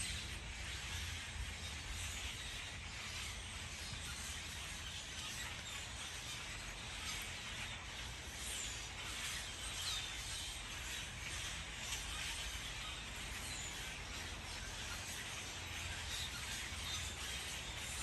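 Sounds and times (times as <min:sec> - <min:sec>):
faint bird chirps: 0:00.0 - 0:18.0
outdoor hiss and low rumble: 0:00.0 - 0:18.0.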